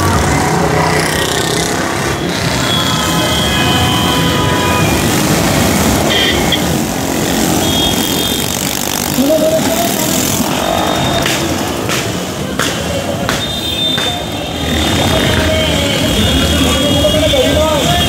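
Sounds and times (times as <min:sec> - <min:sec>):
motorcycles and trucks passing: 0:00.0 - 0:18.0.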